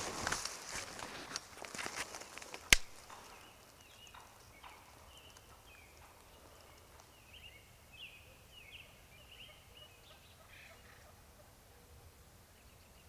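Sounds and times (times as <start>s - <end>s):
wild turkeys calling: 1.5s - 12.2s.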